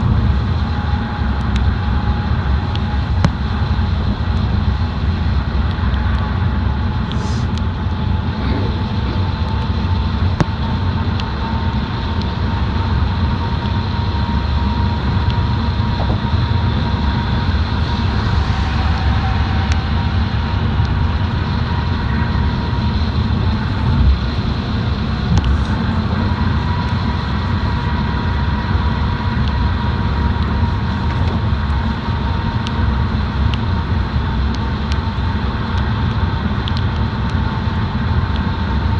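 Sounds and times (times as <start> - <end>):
car engine and road rumble: 0.0 - 38.9
faint steady whine: 0.0 - 38.9.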